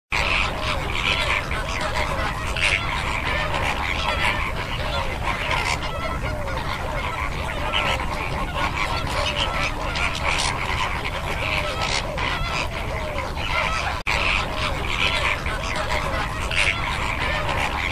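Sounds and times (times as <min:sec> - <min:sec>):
flamingos honking: 0:00.1 - 0:17.9.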